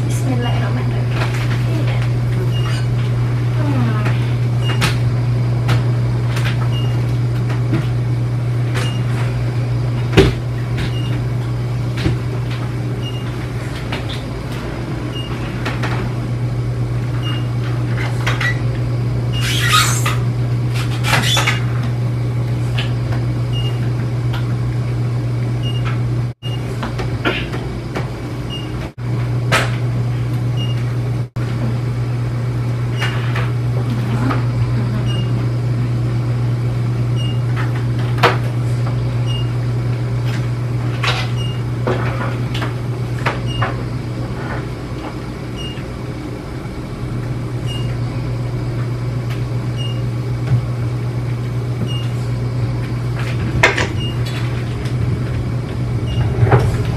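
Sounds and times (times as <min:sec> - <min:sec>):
low electrical machine hum: 0:00.0 - 0:56.9.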